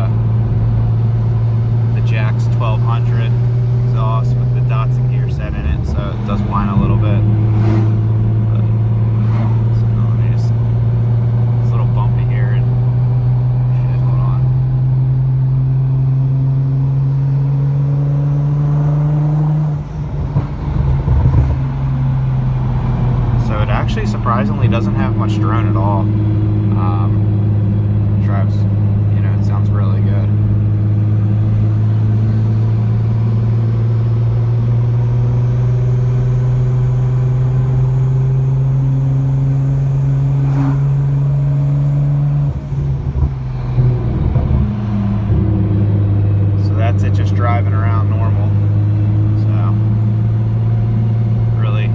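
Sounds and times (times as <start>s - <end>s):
engine rumble with knocks: 0.0s - 18.0s, 19.5s - 51.9s
car engine exhaust drone: 0.0s - 51.9s.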